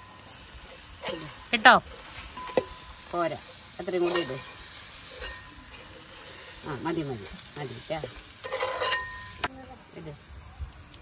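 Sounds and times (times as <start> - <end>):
onions sizzling in a pan: 0.0 - 11.0
wooden spatula scraping a pan: 0.6 - 9.5.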